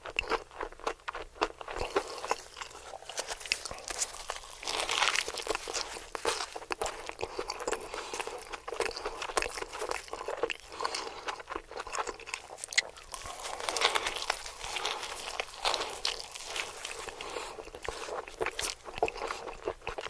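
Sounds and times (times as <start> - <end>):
crunchy food being chewed: 0.0 - 20.0.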